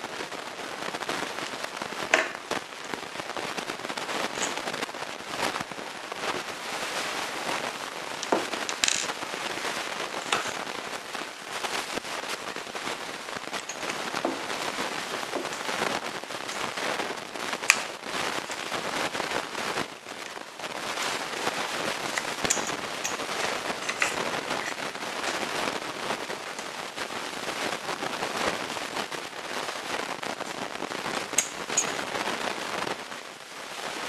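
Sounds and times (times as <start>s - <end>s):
crackling hiss: 0.0s - 34.0s.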